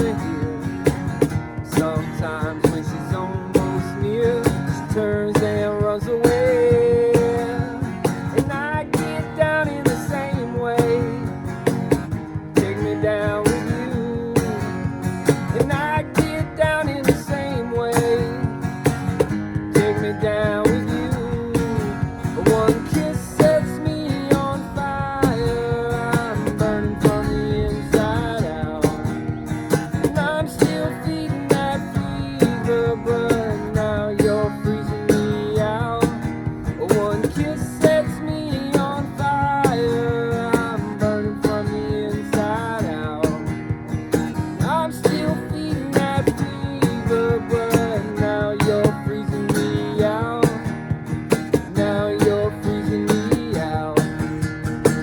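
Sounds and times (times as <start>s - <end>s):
guitar with bent notes: 0.0s - 55.0s
steady beat: 0.0s - 55.0s.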